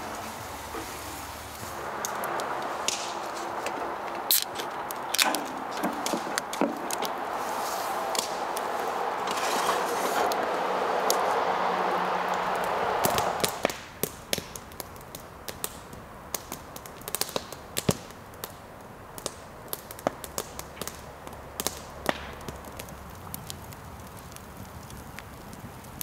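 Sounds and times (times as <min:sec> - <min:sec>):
campfire crackling and popping: 0:00.0 - 0:26.0
soft fire hiss: 0:00.0 - 0:26.0.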